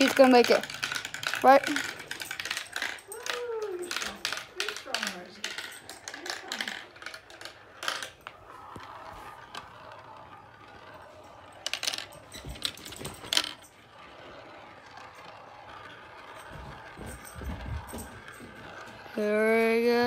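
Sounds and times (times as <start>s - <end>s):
marbles clicking on plastic: 0.0s - 20.0s
marbles rolling on plastic track: 0.0s - 20.0s.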